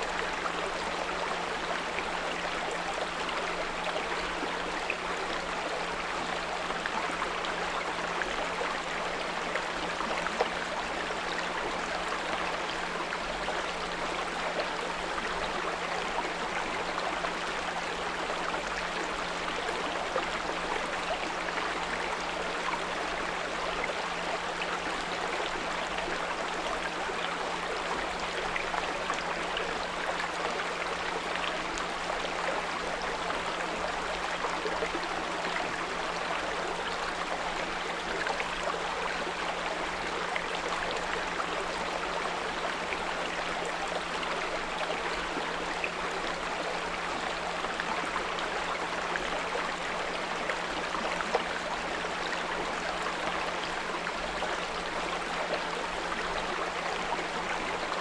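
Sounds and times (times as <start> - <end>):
brook babbling: 0.0 - 58.0.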